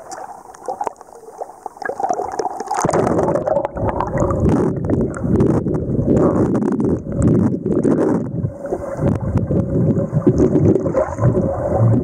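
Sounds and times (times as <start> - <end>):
low churning water rumble: 0.0 - 12.0
water gurgling and sloshing: 0.0 - 12.0.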